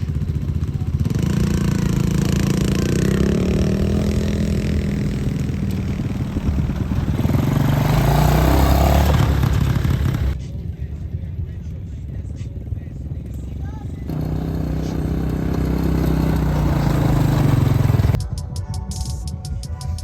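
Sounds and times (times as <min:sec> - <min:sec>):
off-road vehicle engine revving: 0:00.0 - 0:10.9, 0:12.0 - 0:18.2.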